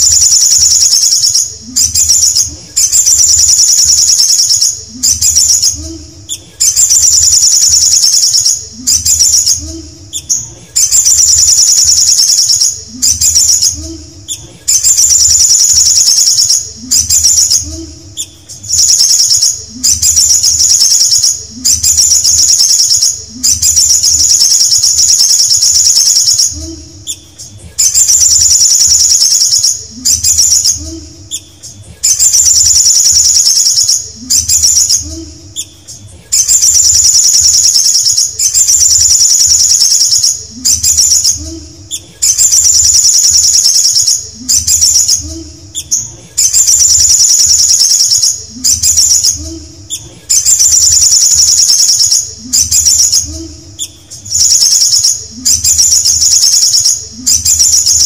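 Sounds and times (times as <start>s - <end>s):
bird singing high-pitched trills: 0.0s - 58.0s.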